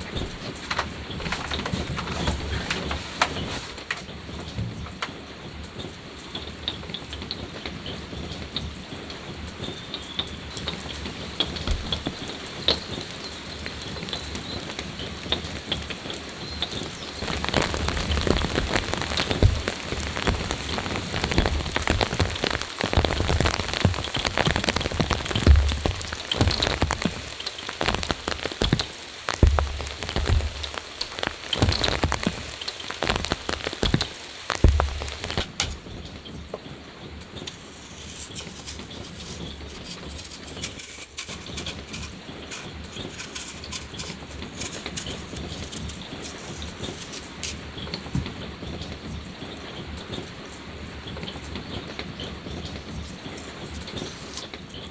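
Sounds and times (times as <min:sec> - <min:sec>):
rain falling: 0:00.0 - 0:54.9
raindrops hitting close by: 0:00.0 - 0:54.9.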